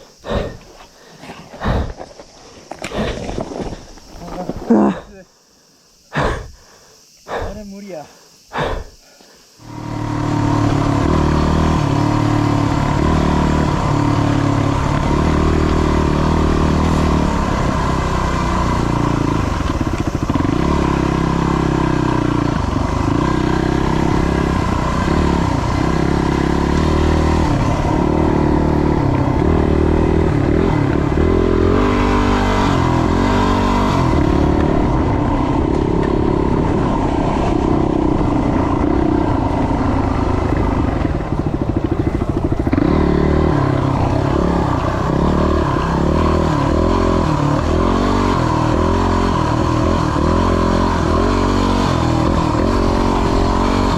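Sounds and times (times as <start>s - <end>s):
motorcycle engine revving: 9.6s - 53.9s.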